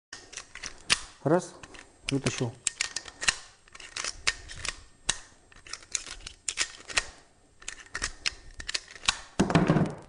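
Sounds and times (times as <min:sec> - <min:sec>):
pistol metallic clicks: 0:00.2 - 0:09.4
quiet handling noise: 0:00.2 - 0:10.0.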